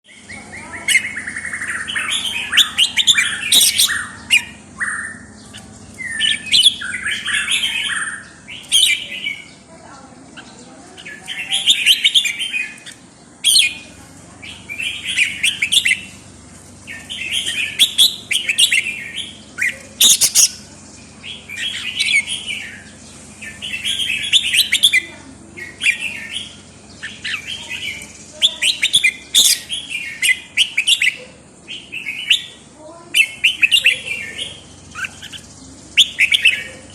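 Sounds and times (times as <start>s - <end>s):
sharp high bird chirps: 0.1s - 9.7s, 10.3s - 36.9s
songbird warbling: 0.1s - 36.9s.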